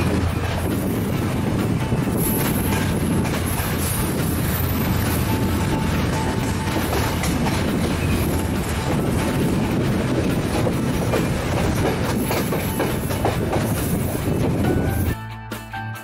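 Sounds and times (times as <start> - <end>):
train carriages rumbling: 0.0 - 15.2
wheels clicking over rail joints: 0.0 - 15.2.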